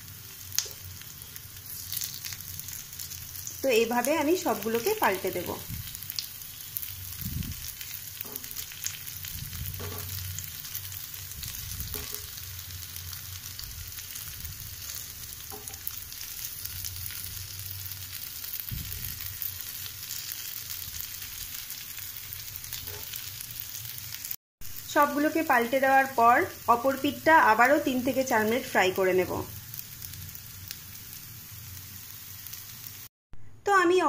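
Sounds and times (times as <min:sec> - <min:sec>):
cutlets sizzling in hot oil: 0:00.0 - 0:33.1.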